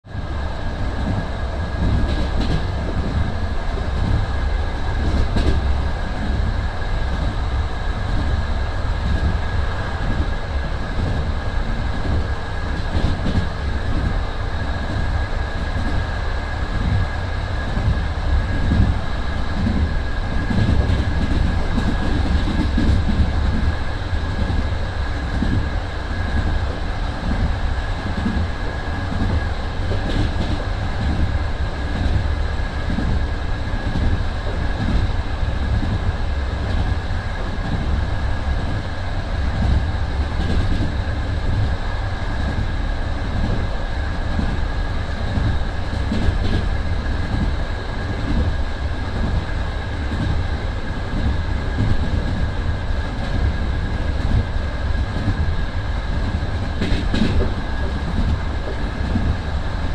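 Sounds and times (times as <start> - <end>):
train running gear rumbling: 0.0 - 59.9.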